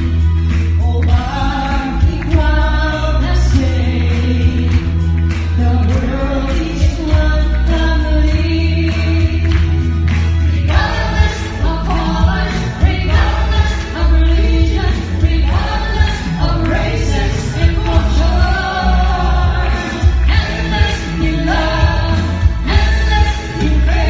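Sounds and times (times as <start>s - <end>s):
bass-heavy music through speakers: 0.0s - 24.0s
people singing into microphones: 0.0s - 24.0s.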